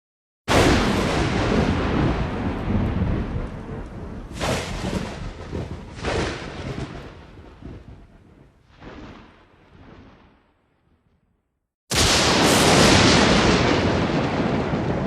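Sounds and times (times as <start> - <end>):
sharp thunder cracks: 0.5 - 10.5, 11.9 - 15.0
thunder rumbling: 0.5 - 11.0, 11.9 - 15.0.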